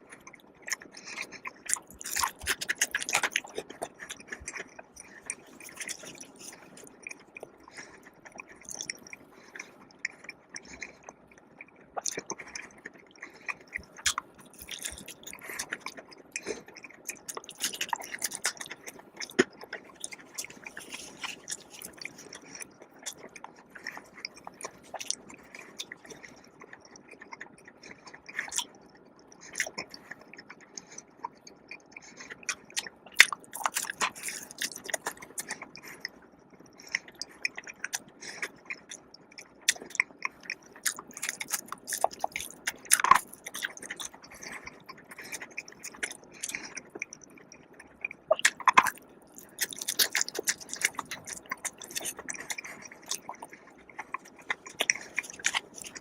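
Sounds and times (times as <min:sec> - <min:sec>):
person chewing and biting food: 0:00.0 - 0:56.0.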